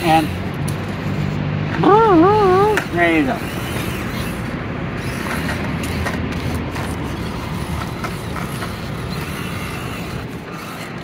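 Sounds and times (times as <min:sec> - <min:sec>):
small electric motor and gears: 0:00.0 - 0:11.0.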